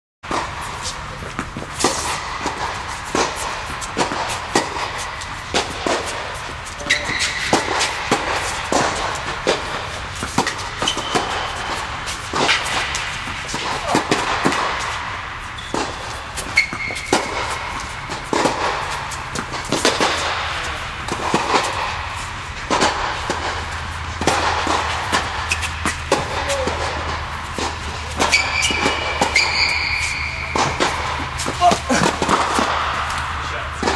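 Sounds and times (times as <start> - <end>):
tennis balls struck and bouncing: 0.2 - 33.9
court shoes squeaking: 0.3 - 33.9
steady hum: 0.3 - 33.9.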